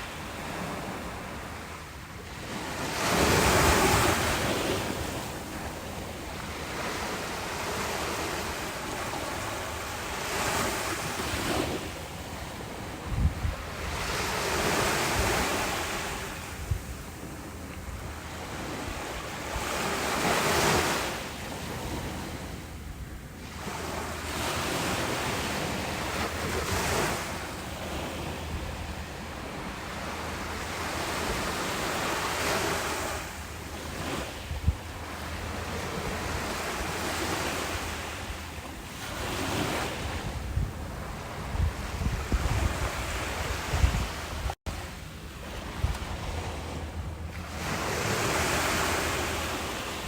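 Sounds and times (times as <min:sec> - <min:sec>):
ocean waves breaking on beach: 0:00.0 - 0:50.0
wind buffeting microphone: 0:00.0 - 0:50.0.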